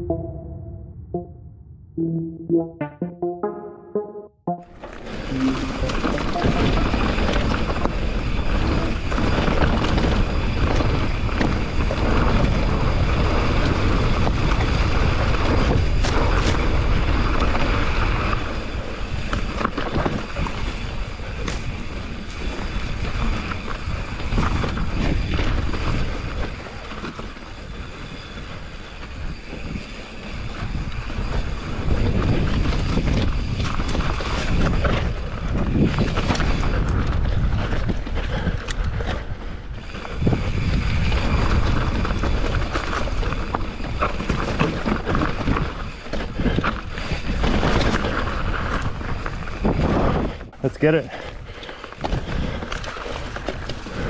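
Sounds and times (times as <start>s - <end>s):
mountain bike rattling over dirt: 6.9s - 54.0s.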